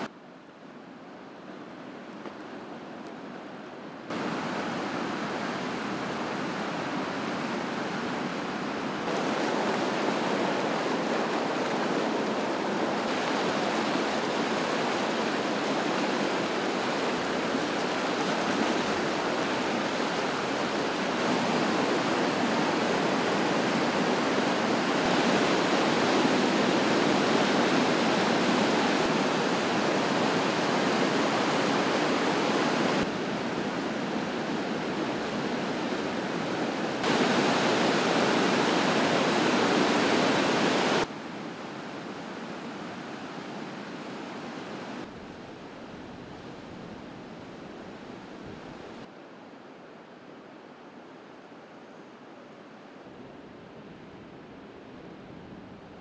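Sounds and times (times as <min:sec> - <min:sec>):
river rushing through rapids: 0:00.0 - 0:56.0.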